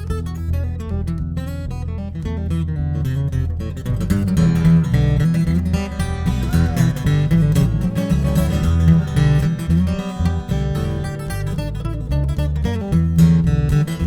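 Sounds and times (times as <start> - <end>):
bass low notes: 0.0 - 14.0
fingerstyle acoustic guitar: 0.0 - 14.0.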